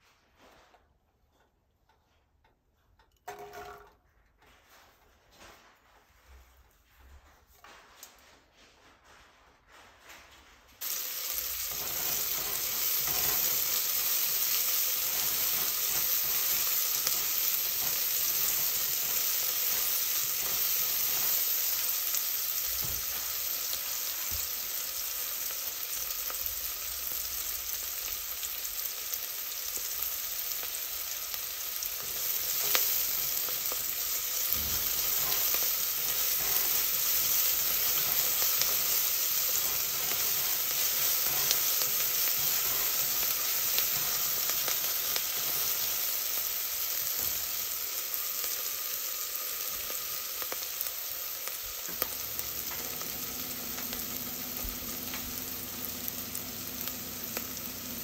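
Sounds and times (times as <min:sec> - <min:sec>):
onion sizzling in hot oil: 0:10.8 - 0:58.0.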